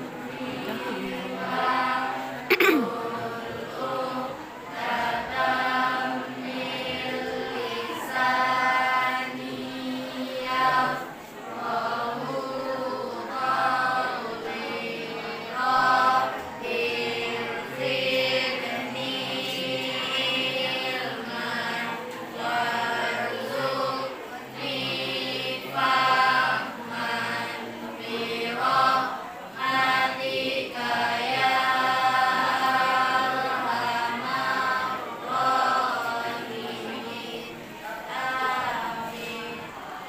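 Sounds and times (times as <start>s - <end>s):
students chanting in unison: 0.0s - 40.0s.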